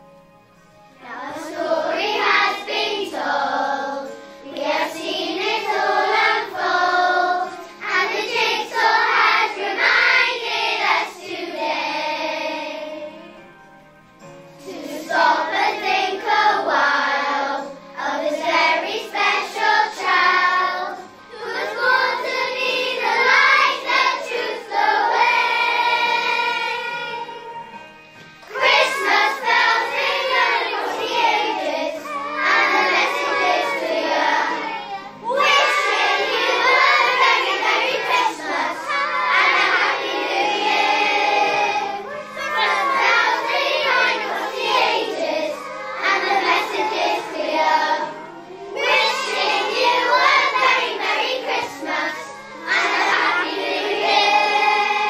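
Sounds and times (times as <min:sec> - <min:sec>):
children's choir singing: 0:00.0 - 0:13.5, 0:14.2 - 0:55.0
instrumental accompaniment: 0:00.0 - 0:55.0.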